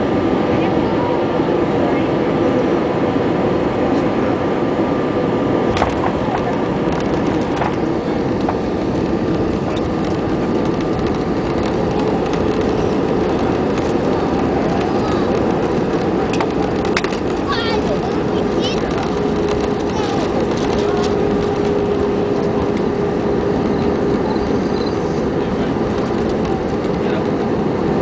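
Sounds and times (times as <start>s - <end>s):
jet engines humming: 0.0s - 28.0s.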